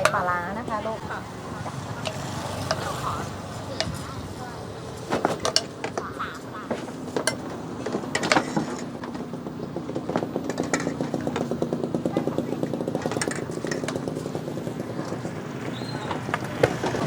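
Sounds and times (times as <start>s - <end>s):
kitchen utensils clinking: 0.0s - 17.0s
small engine running: 0.0s - 17.0s.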